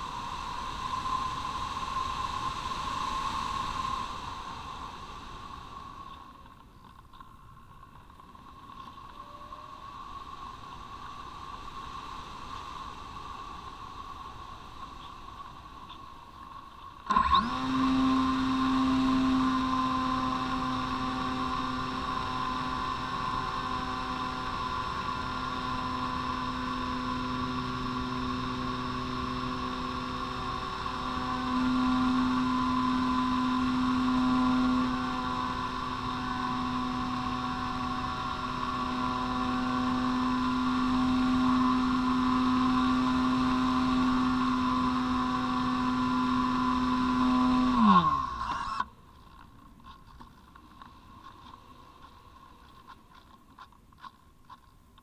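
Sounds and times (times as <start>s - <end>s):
electric motor and propeller drone: 0.0s - 49.1s.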